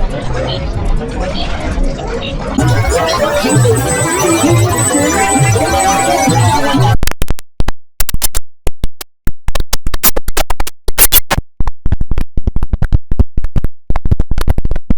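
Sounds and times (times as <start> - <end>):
rapid chopped clicks and blips: 2.6 - 14.9.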